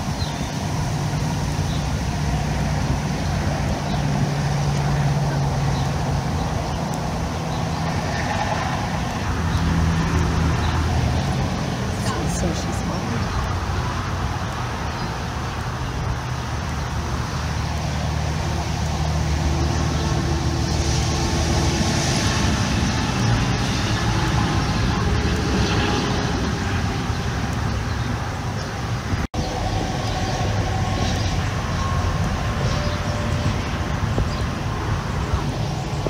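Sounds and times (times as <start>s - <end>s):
low rumbling noise: 0.0s - 36.0s.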